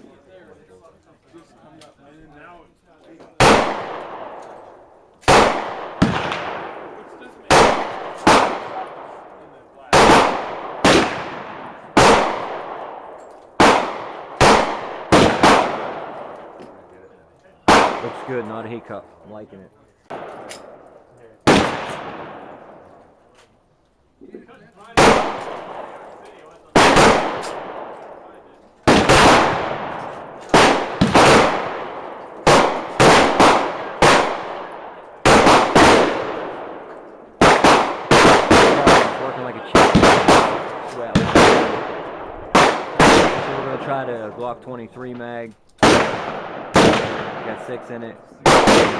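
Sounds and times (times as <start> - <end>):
pistol shots echoing: 3.4 - 16.9, 17.6 - 19.0, 20.1 - 23.0, 25.0 - 44.3, 45.8 - 48.9.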